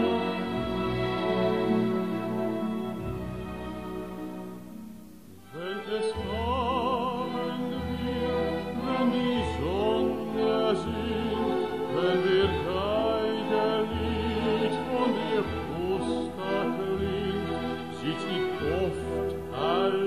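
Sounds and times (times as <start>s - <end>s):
man singing with vibrato: 0.0s - 2.9s, 5.4s - 20.0s
orchestra accompaniment: 0.0s - 20.0s.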